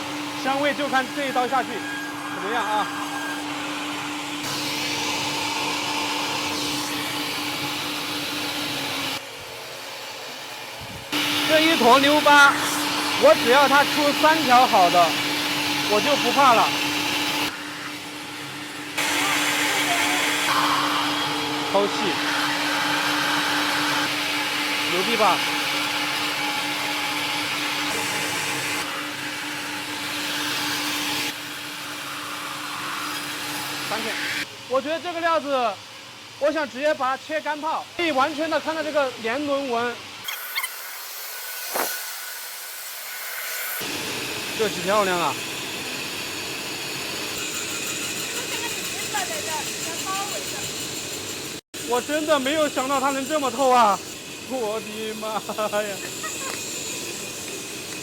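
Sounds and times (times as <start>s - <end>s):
power saw cutting log: 0.0s - 10.4s, 11.1s - 35.2s, 38.0s - 58.0s.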